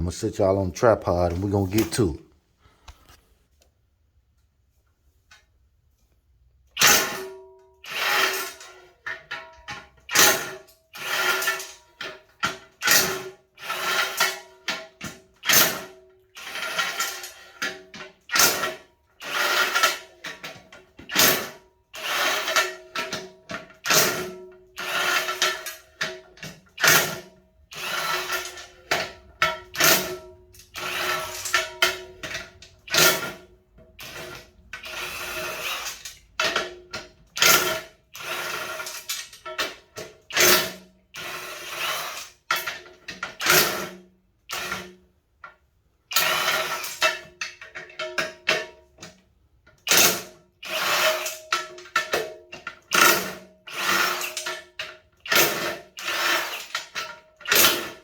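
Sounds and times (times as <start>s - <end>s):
power tool spinning bolts: 6.8s - 45.0s, 46.1s - 47.3s, 49.8s - 58.0s.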